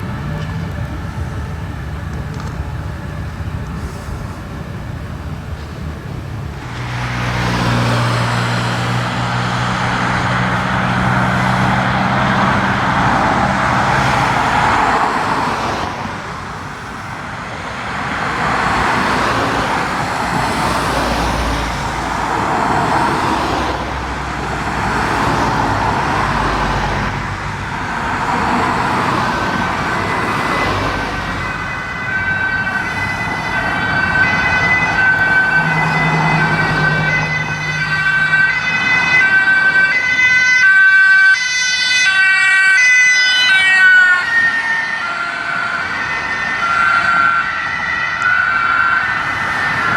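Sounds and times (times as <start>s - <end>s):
emergency vehicle sirens: 0.0s - 49.9s
heavy vehicle engine hum: 0.0s - 49.9s.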